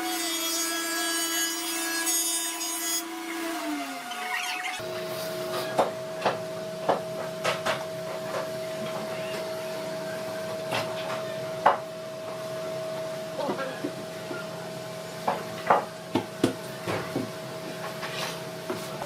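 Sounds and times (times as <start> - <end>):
workshop machine humming: 0.0 - 19.0.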